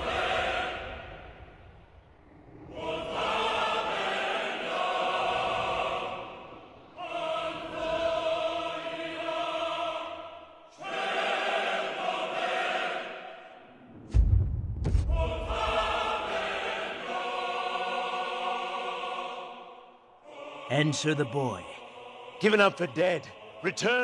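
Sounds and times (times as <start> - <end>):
wordless choir singing: 0.0 - 24.0.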